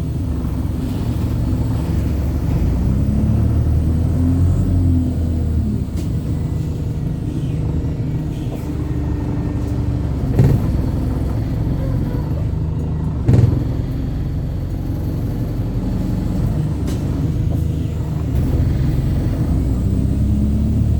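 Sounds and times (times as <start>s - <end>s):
bus diesel engine: 0.0s - 20.9s
road rumble: 0.0s - 20.9s.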